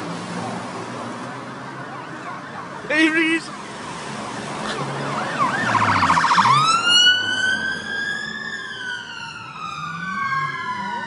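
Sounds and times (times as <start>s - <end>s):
car engines running: 0.0s - 11.0s
police siren wailing: 1.4s - 11.0s.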